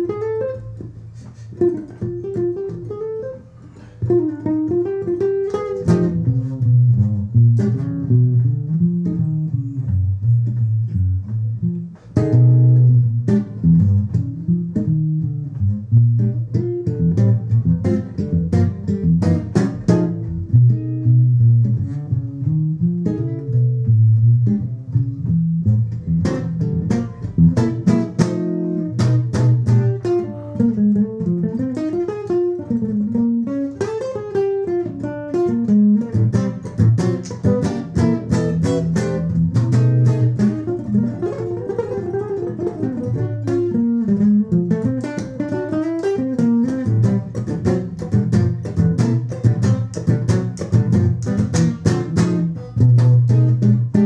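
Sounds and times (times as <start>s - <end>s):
hollow-body guitar samba rhythm: 0.0s - 54.0s.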